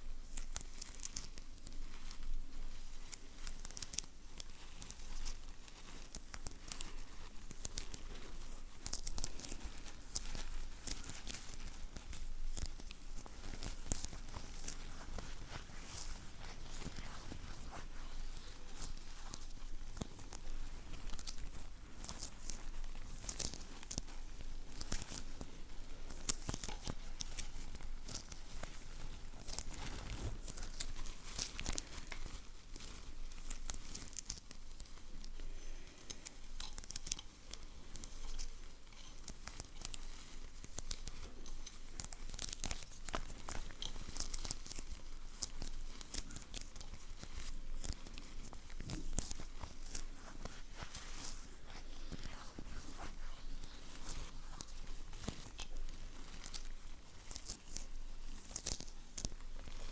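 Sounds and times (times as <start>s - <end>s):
sticky material peeling and crackling: 0.2s - 59.9s.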